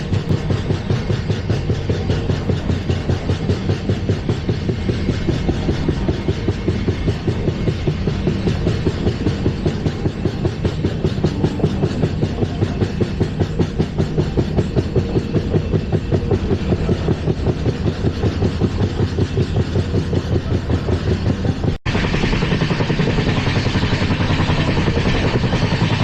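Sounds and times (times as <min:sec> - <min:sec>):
train wheels clattering on track: 0:00.0 - 0:26.0.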